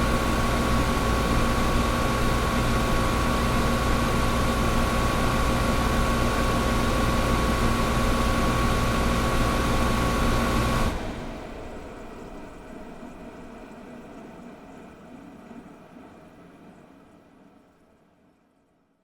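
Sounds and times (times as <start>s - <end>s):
air conditioner hissing and humming: 0.0s - 18.1s.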